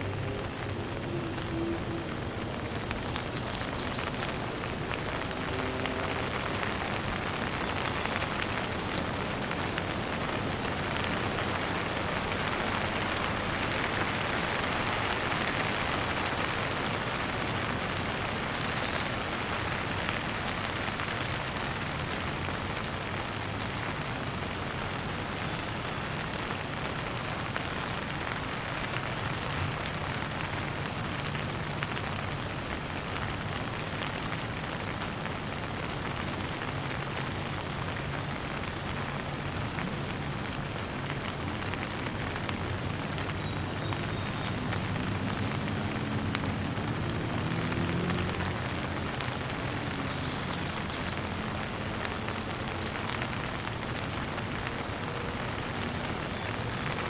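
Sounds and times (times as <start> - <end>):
gentle rain pattering: 0.0 - 57.0.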